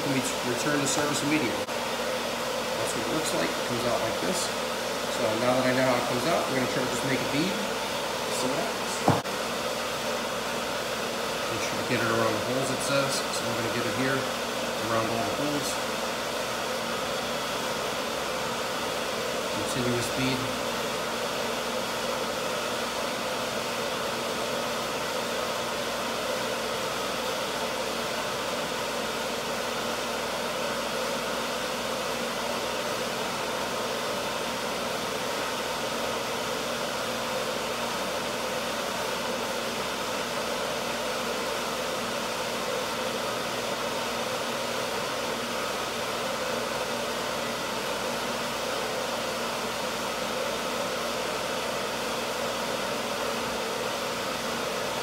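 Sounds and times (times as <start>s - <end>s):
pump humming: 0.0s - 55.0s.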